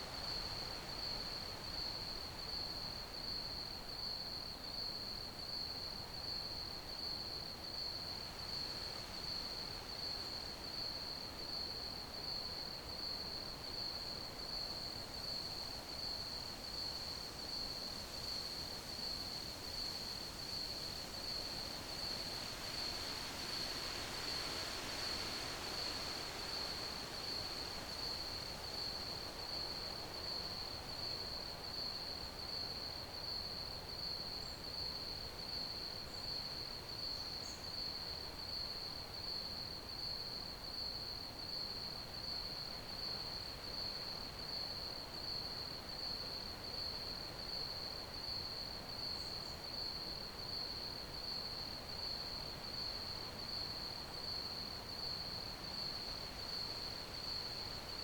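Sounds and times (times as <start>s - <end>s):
crickets chirping: 7.7s - 58.0s.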